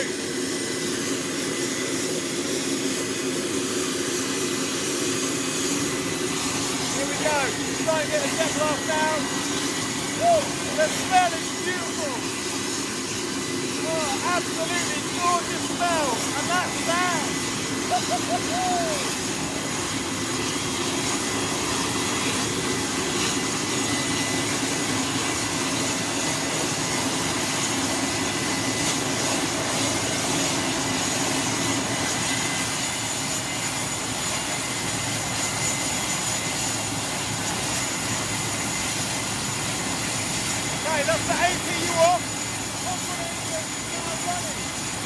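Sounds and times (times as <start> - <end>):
jet engine roaring with whine: 0.0 - 45.0.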